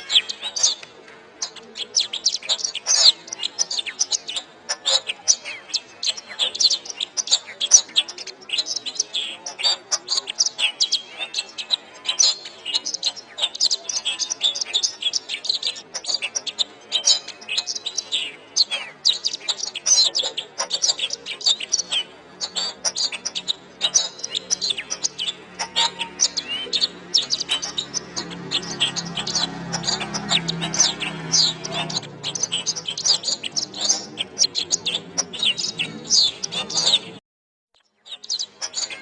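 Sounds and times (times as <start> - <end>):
canary singing: 0.0 - 37.2, 37.8 - 39.0.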